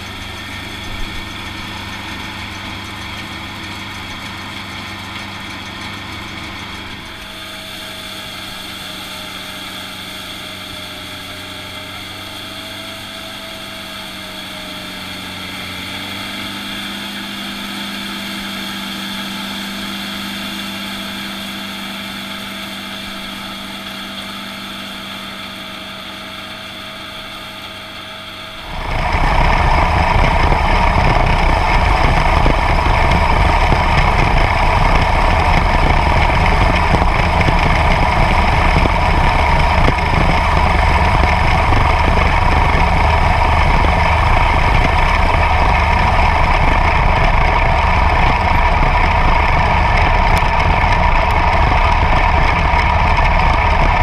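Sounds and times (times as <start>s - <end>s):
combine harvester rattling rumble: 0.0s - 54.0s.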